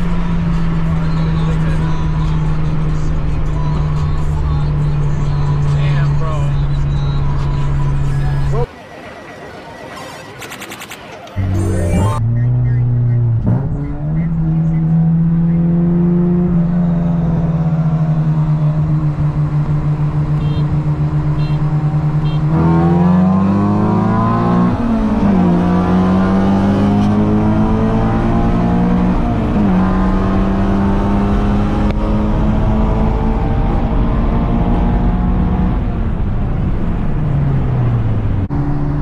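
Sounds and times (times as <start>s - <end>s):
car engine accelerating: 0.0s - 8.7s, 11.4s - 39.0s.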